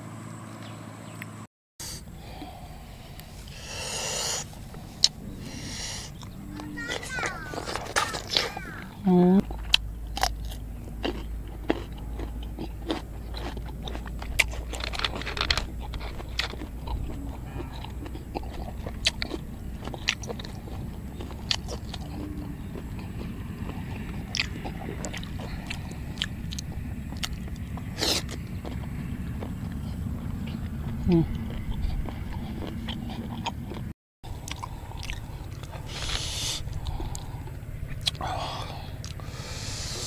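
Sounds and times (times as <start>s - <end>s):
person chewing crunchy cucumber: 2.2s - 40.0s.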